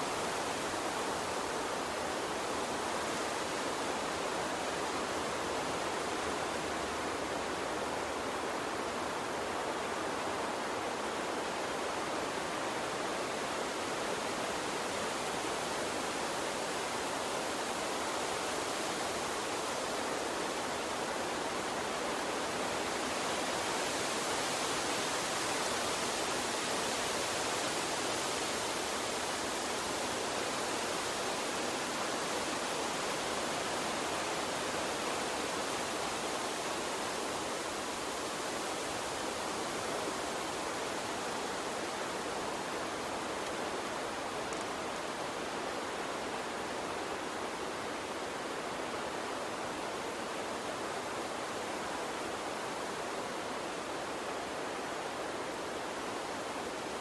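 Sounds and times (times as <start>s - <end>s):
gentle water stream running: 0.0s - 57.0s.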